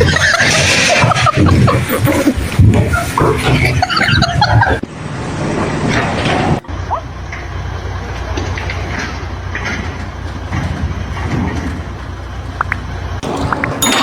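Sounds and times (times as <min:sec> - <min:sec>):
heavy machinery rumbling: 0:00.0 - 0:14.0.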